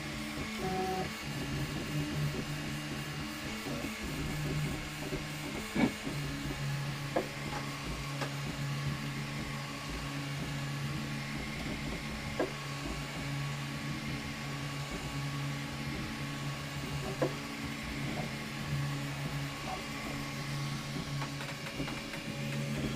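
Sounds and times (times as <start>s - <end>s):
printer motors and fans humming: 0.0s - 22.9s.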